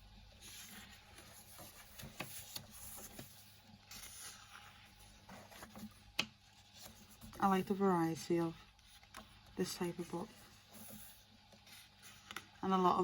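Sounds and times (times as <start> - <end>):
faint pump hum: 0.0 - 13.0
paper pages rustling: 0.4 - 7.8, 8.6 - 13.0.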